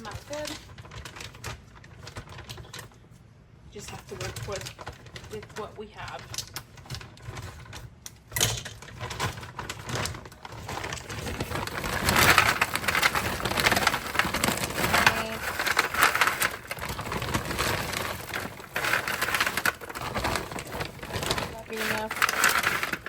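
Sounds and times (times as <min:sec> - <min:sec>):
frozen vegetables pattering on a pan: 0:00.0 - 0:02.9, 0:03.8 - 0:23.0
plastic bag crackling: 0:00.0 - 0:03.2, 0:03.8 - 0:07.8, 0:08.7 - 0:23.0.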